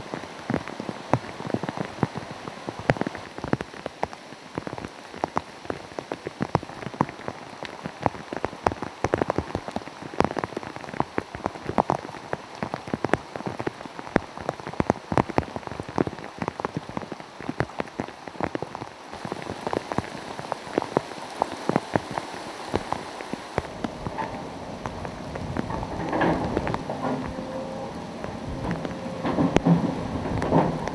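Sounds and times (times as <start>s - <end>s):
heavy rain hiss: 0.0s - 30.9s
raindrops ticking on a surface: 0.0s - 30.9s.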